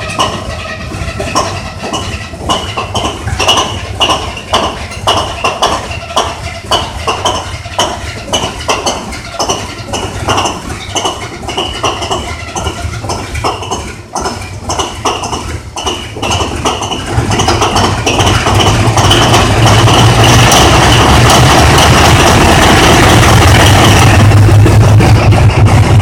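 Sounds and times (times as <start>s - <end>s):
diesel engine rumbling: 0.0s - 26.0s
metallic engine knocks: 0.0s - 26.0s.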